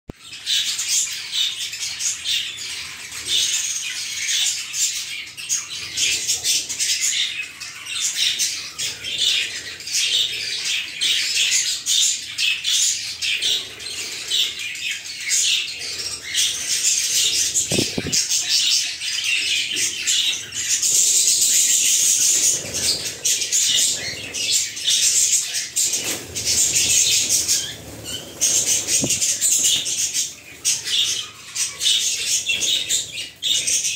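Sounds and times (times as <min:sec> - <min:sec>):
birds chattering: 0:00.2 - 0:33.9.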